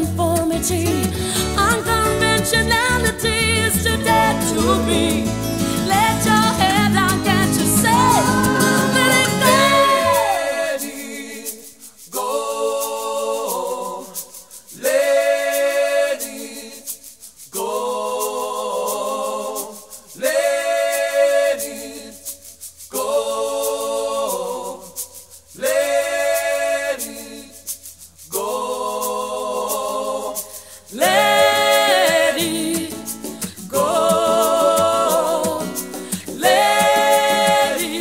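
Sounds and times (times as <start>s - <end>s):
a cappella vocal harmonies: 0.0s - 38.0s
light shaker: 0.0s - 38.0s.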